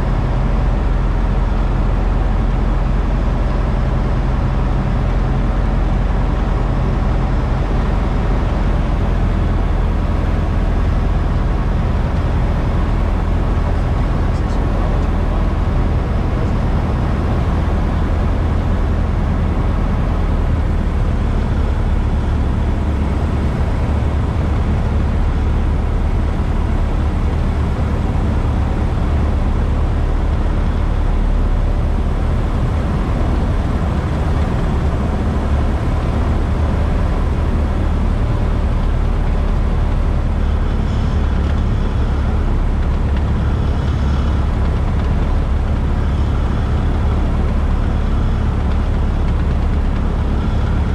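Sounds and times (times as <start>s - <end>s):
propeller engine droning: 0.0s - 50.9s.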